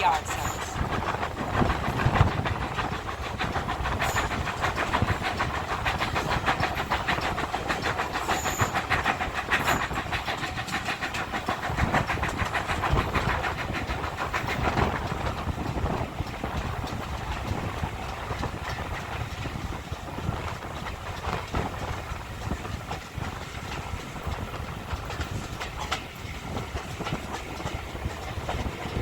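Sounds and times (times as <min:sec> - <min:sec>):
steam train running: 0:00.0 - 0:29.0.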